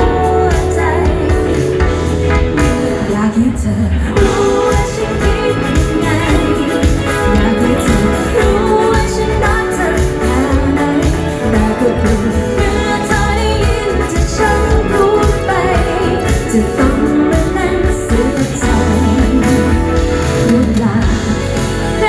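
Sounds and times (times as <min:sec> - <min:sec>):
live pop band playing: 0:00.0 - 0:22.0
woman singing: 0:00.0 - 0:22.0.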